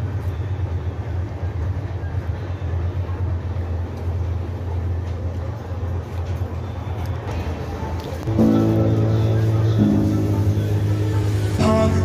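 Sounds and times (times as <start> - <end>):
train coach rumbling: 0.0 - 12.0.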